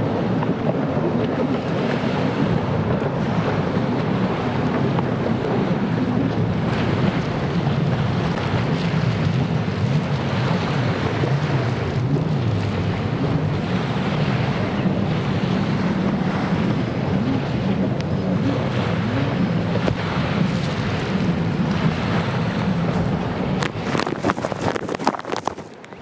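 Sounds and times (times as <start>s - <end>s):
jet ski engines: 0.0s - 26.0s
waves washing: 0.0s - 26.0s
wind buffeting microphone: 0.0s - 26.0s.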